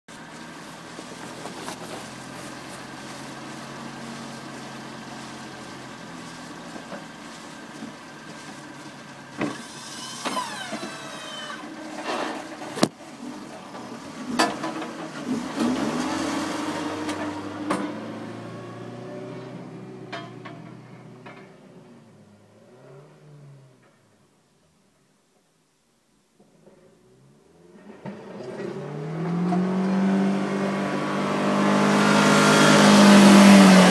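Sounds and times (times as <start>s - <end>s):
snowplow engine revving: 0.1s - 23.9s, 27.0s - 33.9s.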